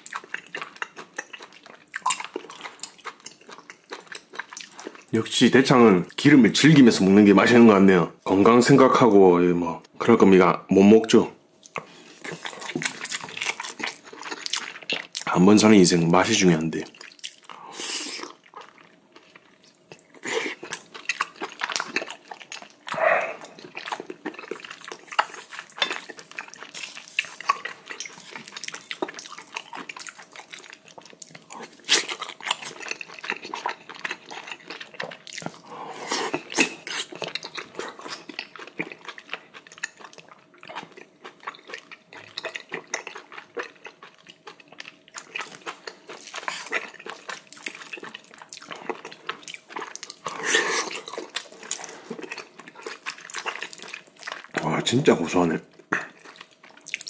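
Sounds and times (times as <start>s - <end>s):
wet chewing and lip-smacking: 0.0s - 5.2s, 11.6s - 15.3s, 16.9s - 54.8s, 55.7s - 57.0s.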